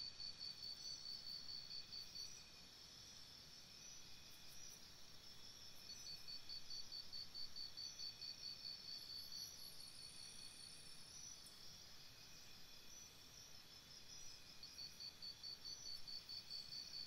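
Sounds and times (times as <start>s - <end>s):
crickets chirping: 0.1s - 17.0s.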